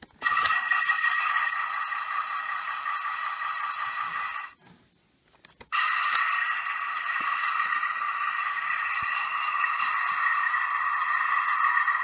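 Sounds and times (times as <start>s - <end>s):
toy truck electronic sound effect: 0.2s - 4.6s, 5.7s - 12.0s.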